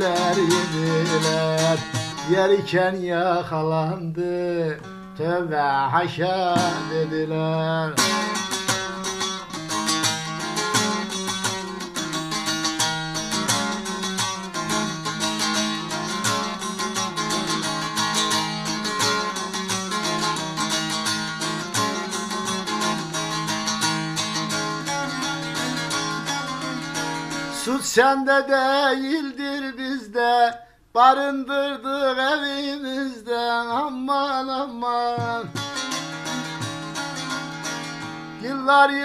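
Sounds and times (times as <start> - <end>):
long-necked lute strummed runs: 0.0 - 28.0, 34.4 - 39.0.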